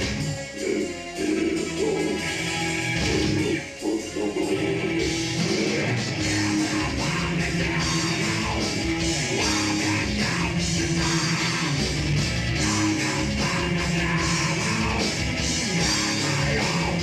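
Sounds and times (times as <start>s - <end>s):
distorted electric guitar riffs: 0.0s - 17.0s
drums: 0.0s - 17.0s.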